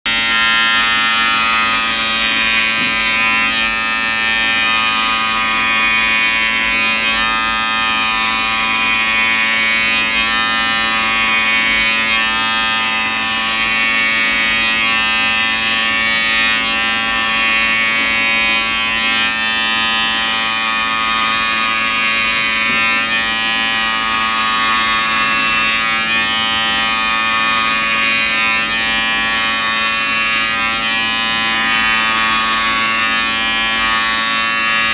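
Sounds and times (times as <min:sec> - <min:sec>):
electric hair clippers buzzing: 0:00.1 - 0:34.9.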